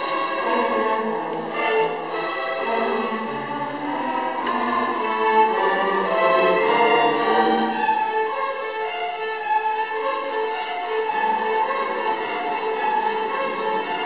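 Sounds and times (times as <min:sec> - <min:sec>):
string orchestra playing: 0:00.0 - 0:14.0.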